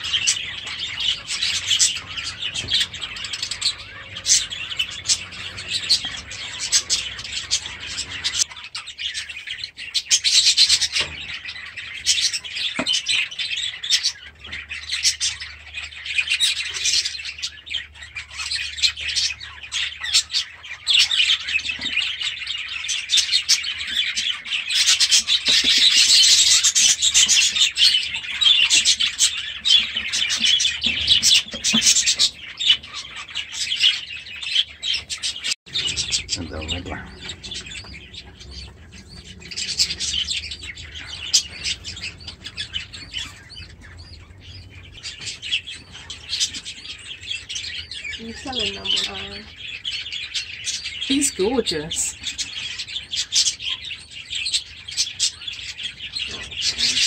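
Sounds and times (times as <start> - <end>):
small birds chirping and twittering: 0.0 - 57.0.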